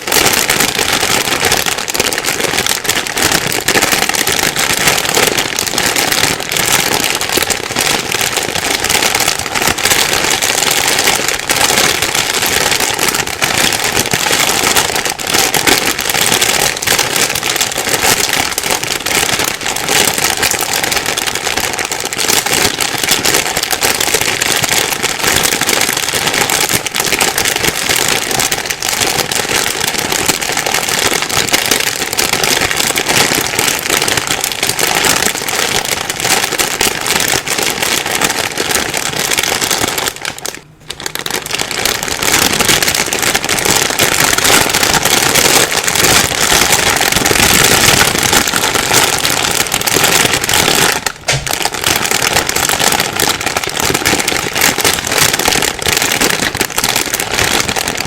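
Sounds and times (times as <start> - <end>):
plastic bag rustling: 0.0 - 58.0.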